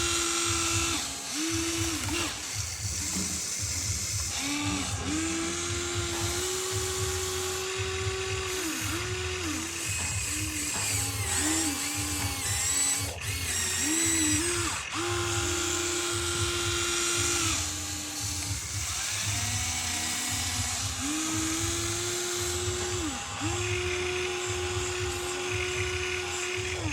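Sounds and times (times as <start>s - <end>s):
small electric motors whining: 0.0s - 26.9s.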